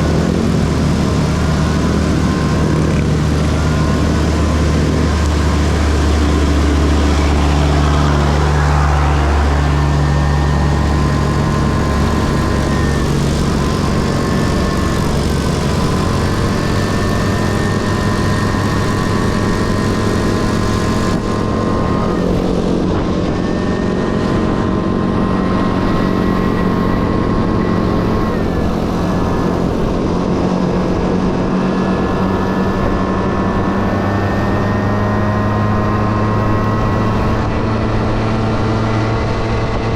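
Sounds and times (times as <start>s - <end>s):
two-stroke scooter engine running: 0.0s - 39.9s.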